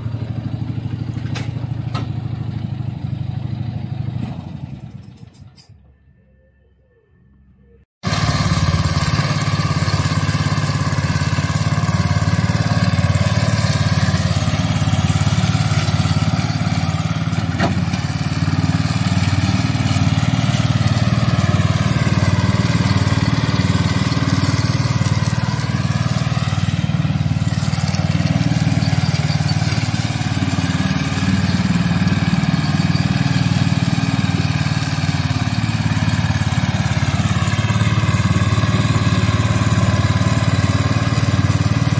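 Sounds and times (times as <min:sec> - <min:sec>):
lawn mower engine running: 0:00.0 - 0:05.8, 0:08.0 - 0:41.9.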